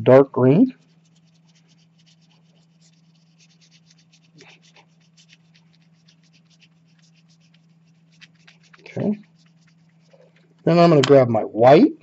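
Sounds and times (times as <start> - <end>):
oil pastel scratching on paper: 0.7 - 10.9.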